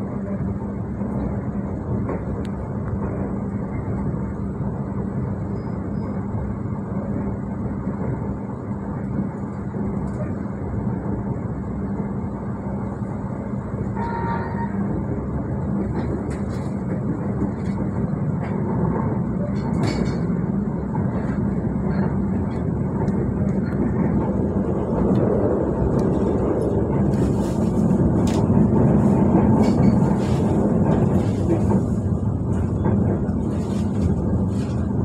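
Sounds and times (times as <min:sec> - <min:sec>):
train rumbling inside coach: 0:00.0 - 0:35.0.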